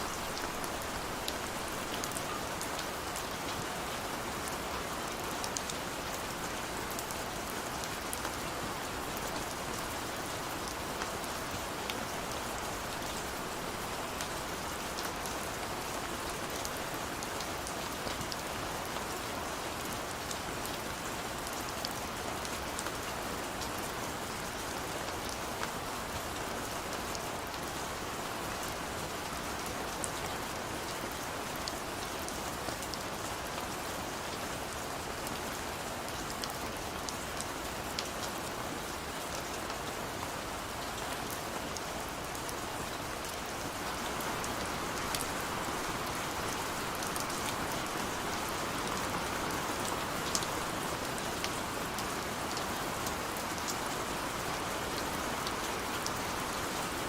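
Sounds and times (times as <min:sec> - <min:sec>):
gentle rain on a window: 0:00.0 - 0:57.0.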